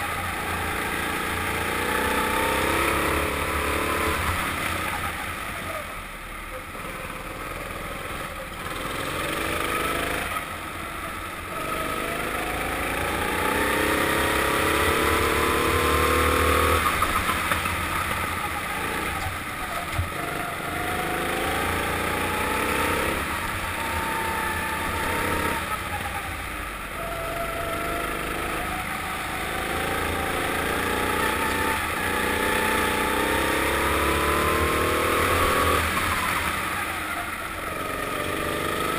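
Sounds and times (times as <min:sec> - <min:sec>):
kart engine accelerating: 0:00.0 - 0:38.9.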